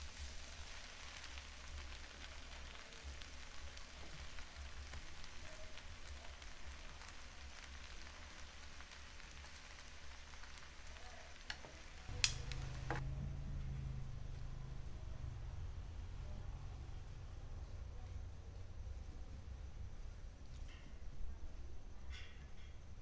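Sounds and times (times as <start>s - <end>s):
noodles sizzling in a frying pan: 0.0s - 23.0s.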